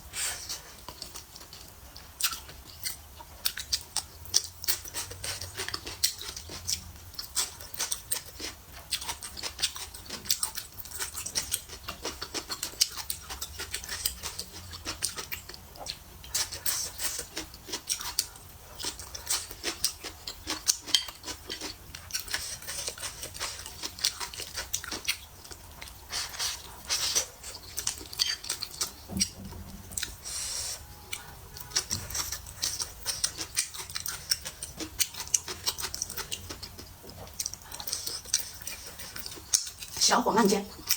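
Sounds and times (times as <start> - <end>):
person chewing: 0.1 - 40.0.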